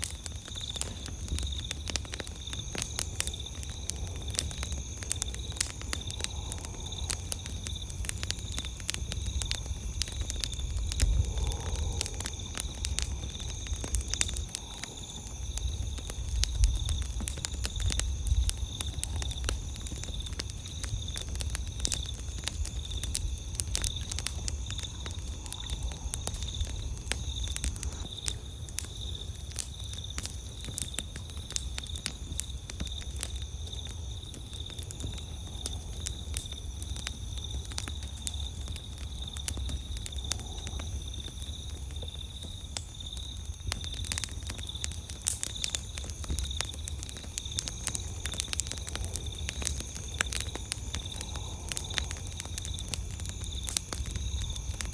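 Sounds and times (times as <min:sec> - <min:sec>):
campfire crackling and popping: 0:00.0 - 0:54.9
night insects chirring: 0:00.0 - 0:54.9.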